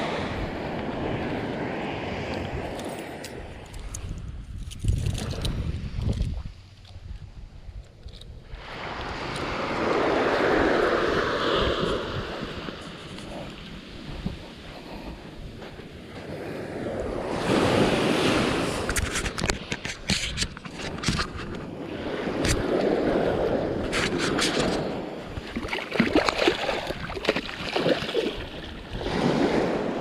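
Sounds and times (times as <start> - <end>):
ocean surf on a beach: 0.0 - 3.7, 8.5 - 30.0.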